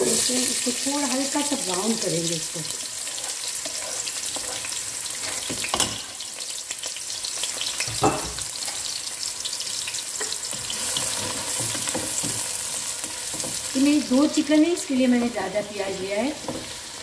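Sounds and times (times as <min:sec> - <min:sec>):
onions sizzling in a pot: 0:00.0 - 0:17.0
spatula stirring onions: 0:00.0 - 0:17.0.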